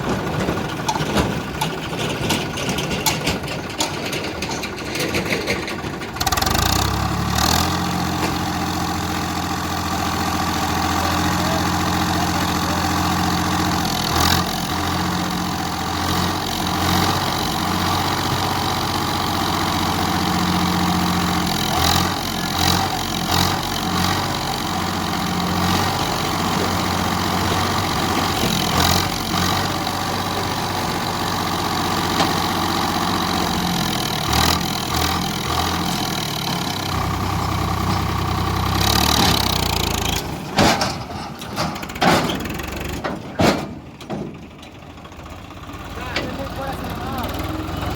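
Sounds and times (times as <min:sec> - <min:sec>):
tractor diesel engine: 0:00.0 - 0:47.9.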